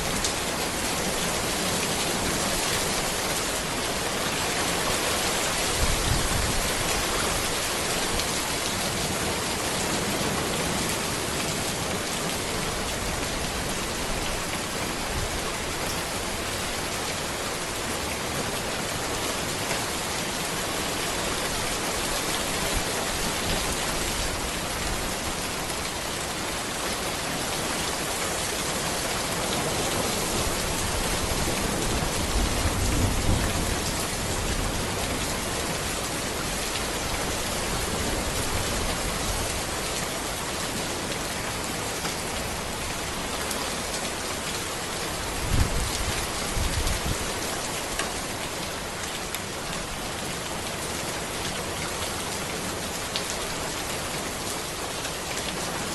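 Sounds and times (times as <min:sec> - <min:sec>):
rain falling on a road: 0:00.0 - 0:55.9.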